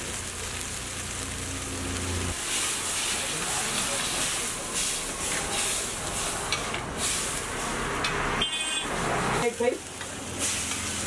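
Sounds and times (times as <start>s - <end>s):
food sizzling in a wok: 0.0s - 11.0s
gas burner roar: 0.0s - 11.0s.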